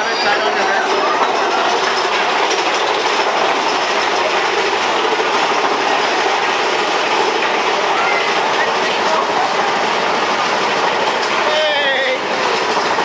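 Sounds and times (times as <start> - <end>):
roller coaster cars rattling: 0.0 - 13.0.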